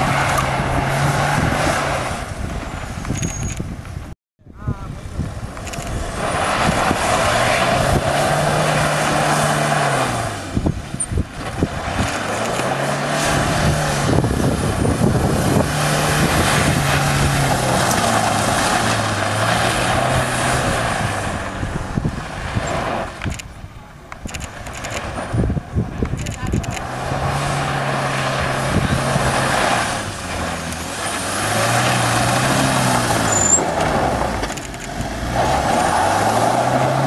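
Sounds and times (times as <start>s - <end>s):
road and cab noise: 0.0s - 37.0s.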